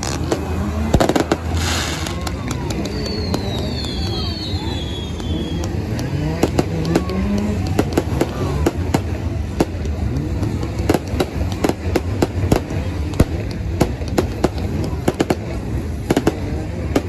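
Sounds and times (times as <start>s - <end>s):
engine revving: 0.0s - 4.0s, 5.0s - 17.0s
fireworks bangs and crackles: 0.0s - 17.0s
stock car engines running: 0.0s - 17.0s.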